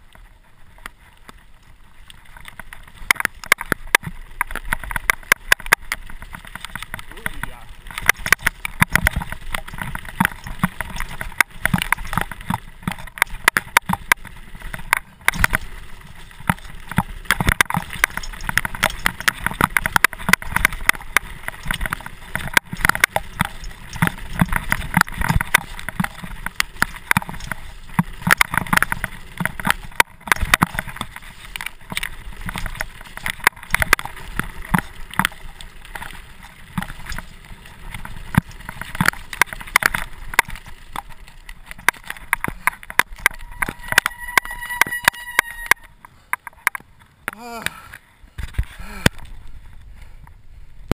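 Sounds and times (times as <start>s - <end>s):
tyre and riding noise: 0.0s - 50.9s
mountain bike knocks and rattles: 2.2s - 47.8s.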